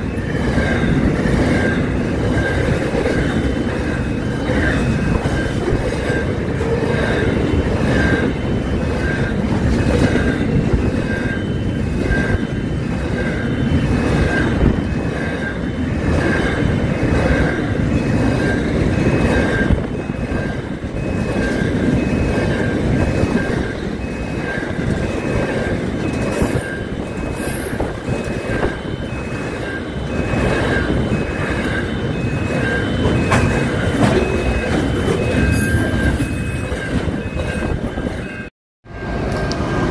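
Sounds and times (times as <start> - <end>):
freight train passing: 0.0 - 39.9.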